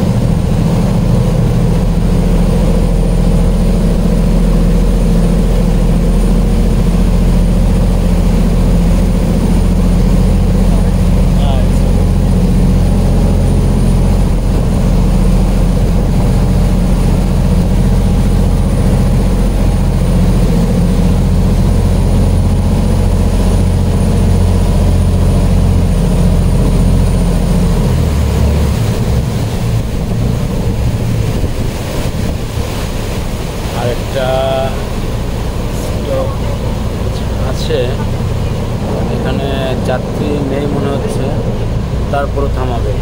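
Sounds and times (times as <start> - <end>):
boat diesel engine running: 0.0 - 43.0.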